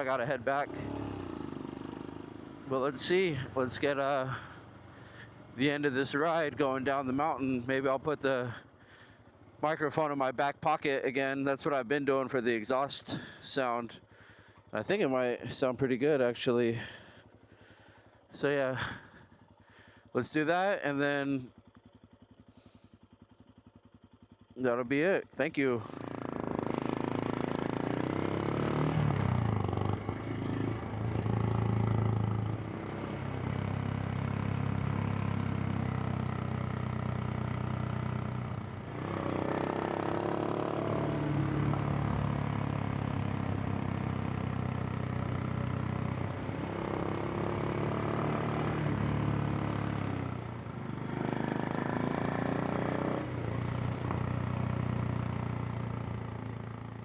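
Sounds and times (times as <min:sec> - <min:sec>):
motorcycle engine accelerating: 0:00.0 - 0:09.6, 0:21.0 - 0:57.0.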